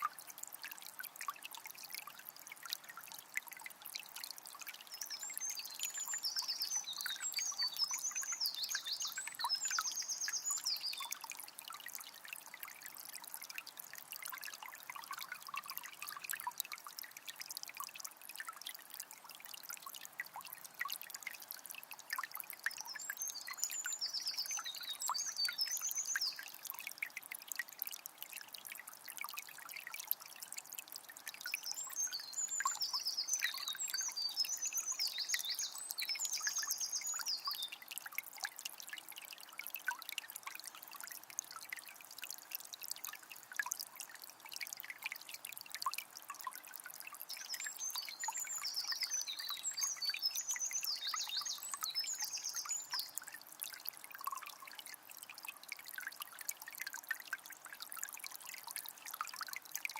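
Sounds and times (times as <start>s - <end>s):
spring water trickling: 0.0s - 59.9s.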